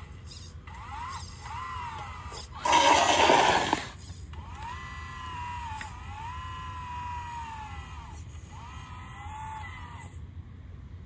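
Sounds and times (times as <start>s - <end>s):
electric motor whine: 0.0s - 10.2s.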